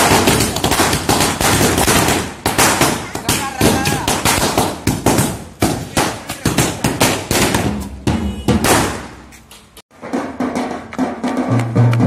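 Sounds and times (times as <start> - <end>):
drums beating: 0.0 - 9.3, 9.9 - 12.0
firecrackers banging: 0.0 - 12.0.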